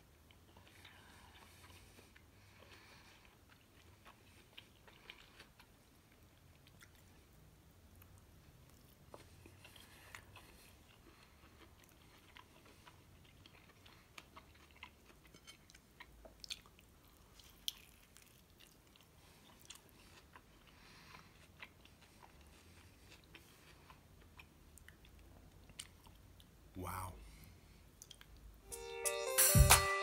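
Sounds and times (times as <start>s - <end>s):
chewing pizza with soft crunches: 0.0s - 28.6s.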